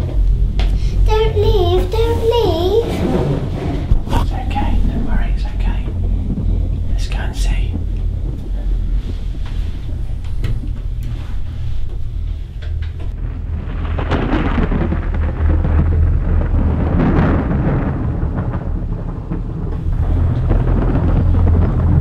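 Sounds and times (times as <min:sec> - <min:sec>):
deep steady rumble: 0:00.0 - 0:22.0
rush of noise: 0:00.0 - 0:22.0.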